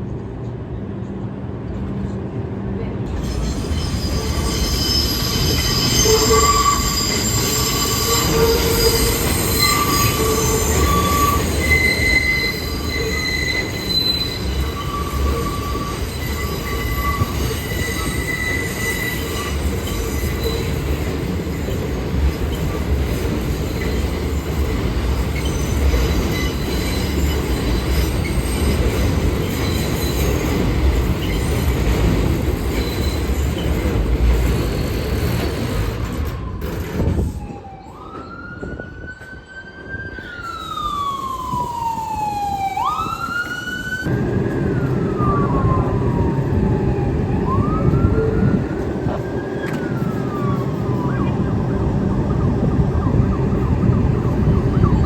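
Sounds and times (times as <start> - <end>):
train rumble: 0.0 - 55.0
train wheels squealing on rails: 3.1 - 55.0.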